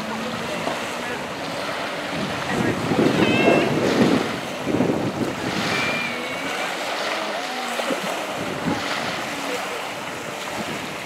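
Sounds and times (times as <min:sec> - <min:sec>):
choppy water: 0:00.0 - 0:11.0
jet ski running: 0:00.0 - 0:11.0
wind on microphone: 0:00.0 - 0:11.0.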